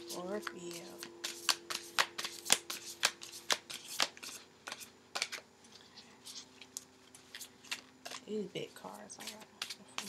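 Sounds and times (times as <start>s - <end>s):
cards being shuffled: 0.0s - 8.3s, 9.2s - 10.0s.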